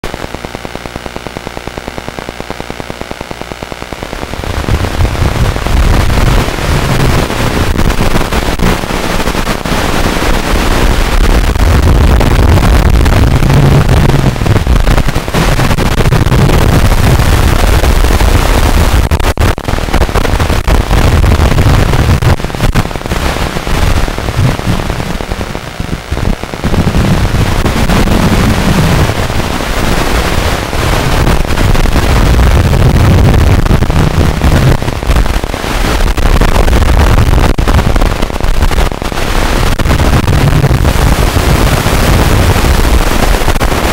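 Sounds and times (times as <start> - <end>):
loud distorted clipping noise: 0.0 - 43.9.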